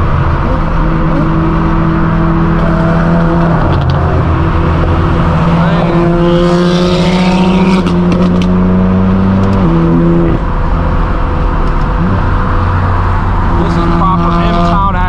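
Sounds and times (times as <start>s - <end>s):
car engine droning at cruise: 0.0s - 15.0s.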